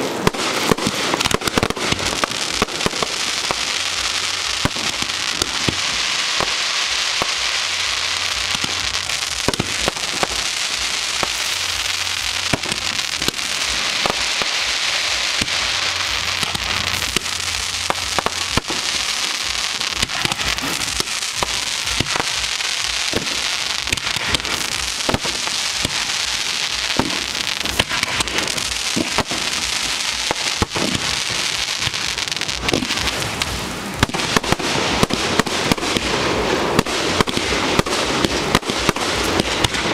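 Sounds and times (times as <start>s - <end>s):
fireworks bangs and pops: 0.0s - 39.9s
fireworks crackling hiss: 0.0s - 39.9s.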